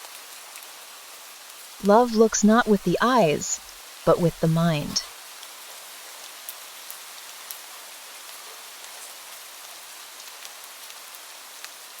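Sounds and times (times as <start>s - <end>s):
steady rain falling: 0.0s - 3.4s, 4.1s - 12.0s.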